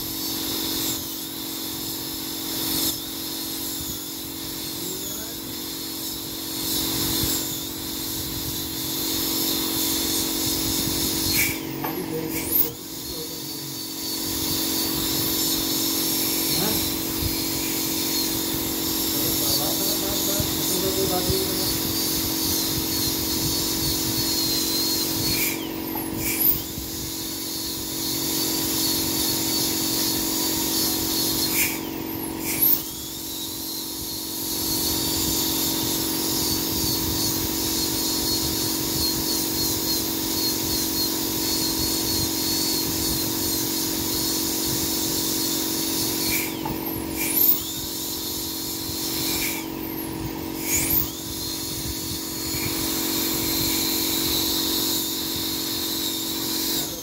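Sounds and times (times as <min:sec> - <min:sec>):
dental drill whining: 0:00.0 - 0:57.0.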